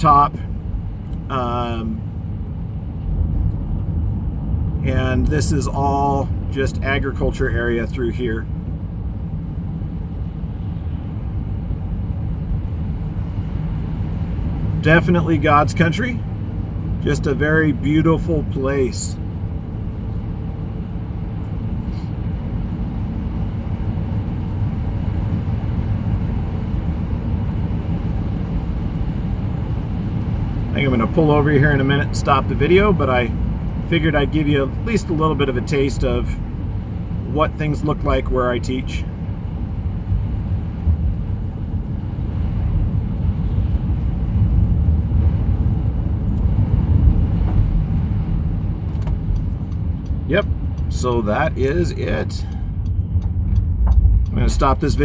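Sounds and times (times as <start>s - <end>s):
vehicle road and engine rumble: 0.0s - 55.0s.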